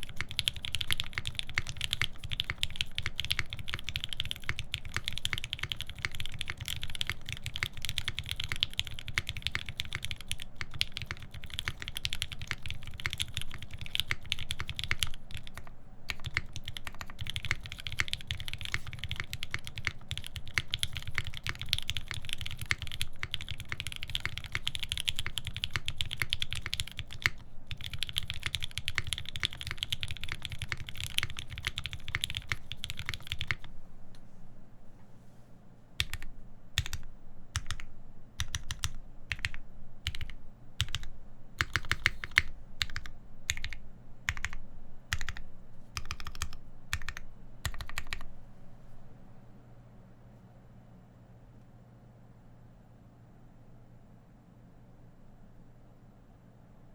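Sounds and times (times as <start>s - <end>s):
fast typing on mechanical keyboard: 0.0s - 33.7s, 36.0s - 48.3s.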